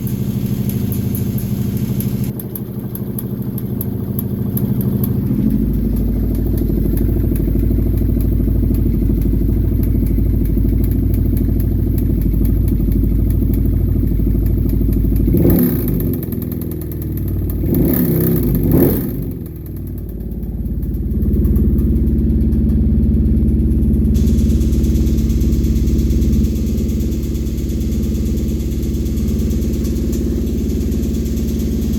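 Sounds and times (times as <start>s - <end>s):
engine idling and revving: 0.0s - 31.9s
rapid ticking rattle: 0.0s - 31.9s.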